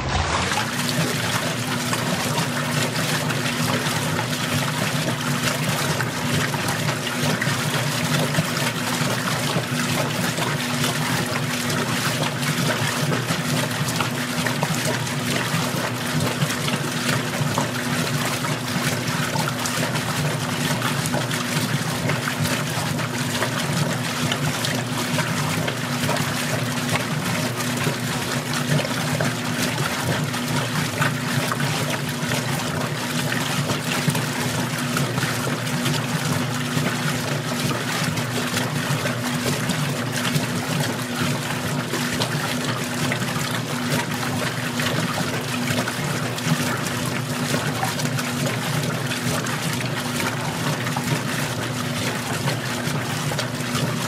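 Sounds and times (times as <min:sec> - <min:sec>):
washer motor hum: 0:00.0 - 0:54.0
water swishing in washer tub: 0:00.0 - 0:54.0.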